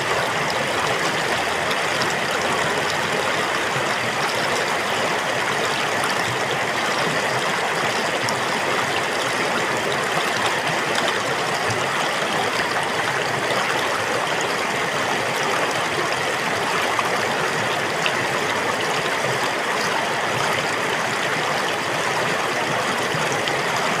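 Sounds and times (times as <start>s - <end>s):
water flowing: 0.0s - 24.0s.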